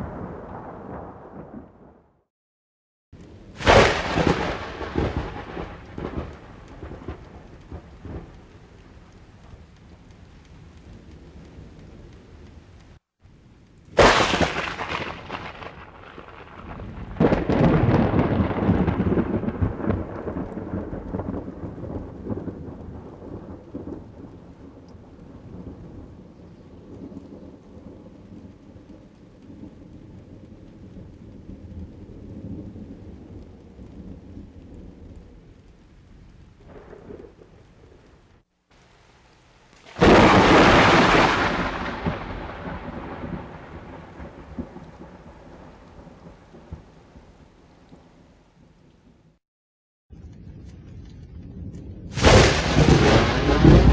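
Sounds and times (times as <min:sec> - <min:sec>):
steady rain: 0:00.0 - 0:01.9, 0:03.2 - 0:49.4, 0:52.1 - 0:53.9
thunder crack and rumble: 0:00.0 - 0:02.2, 0:03.2 - 0:13.0, 0:13.8 - 0:38.4, 0:39.8 - 0:49.2, 0:50.4 - 0:53.9.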